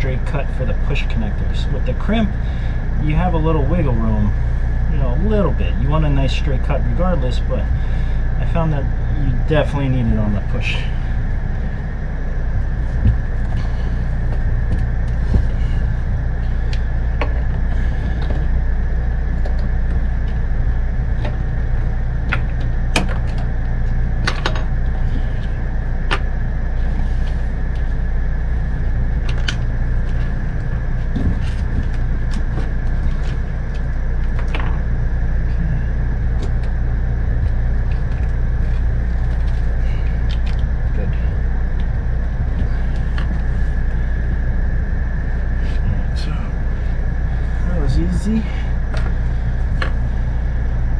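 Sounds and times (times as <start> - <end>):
high whine: 0.0 - 50.9
low mechanical hum: 0.0 - 50.9.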